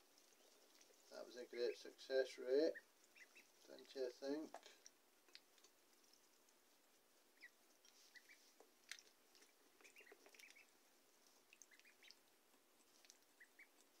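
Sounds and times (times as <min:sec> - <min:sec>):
ducklings peeping: 0:00.1 - 0:05.7, 0:07.1 - 0:14.0.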